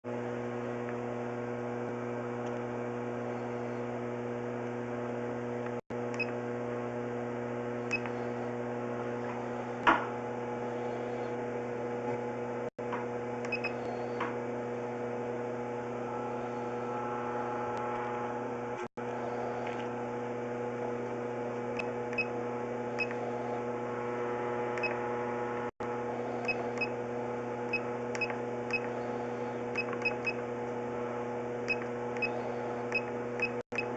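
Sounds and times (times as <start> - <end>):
electrical hum: 0.1 - 33.9.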